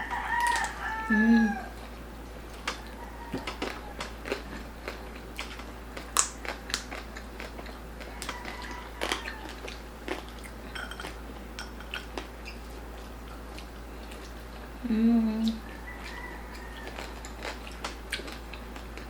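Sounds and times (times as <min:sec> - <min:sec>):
crunching and chewing food: 0:00.0 - 0:14.8, 0:15.5 - 0:19.0.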